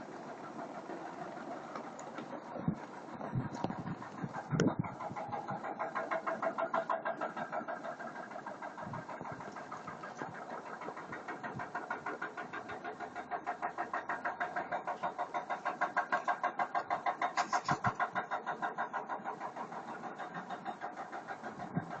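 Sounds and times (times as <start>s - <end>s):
car engine pulsing: 0.0s - 22.0s.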